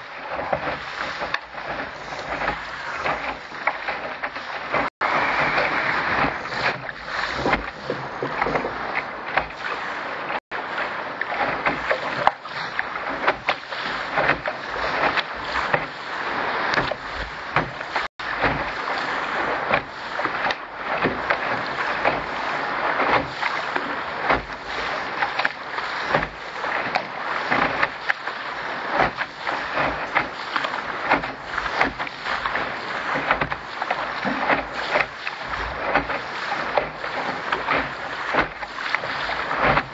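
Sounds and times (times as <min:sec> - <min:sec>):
water splashing against boat hull: 0:00.0 - 0:39.9.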